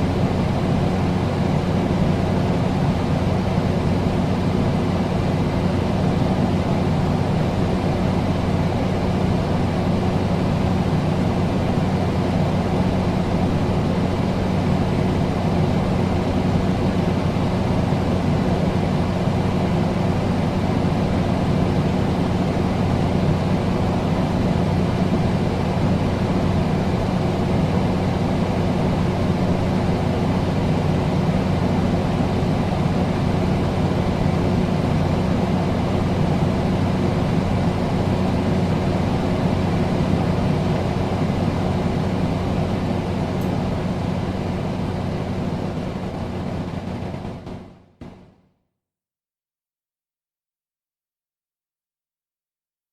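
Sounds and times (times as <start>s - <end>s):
air conditioner humming: 0.0s - 48.2s.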